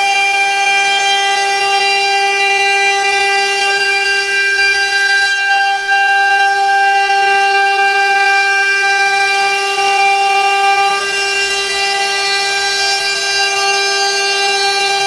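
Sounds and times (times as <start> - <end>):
router bit milling wood: 0.0 - 15.0
router spindle high whine: 0.0 - 15.0.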